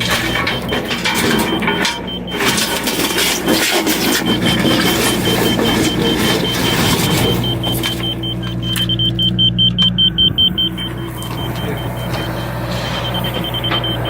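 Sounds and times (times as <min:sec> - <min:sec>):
excavator diesel engine: 0:00.0 - 0:14.0
rapid high beeping: 0:00.0 - 0:14.0.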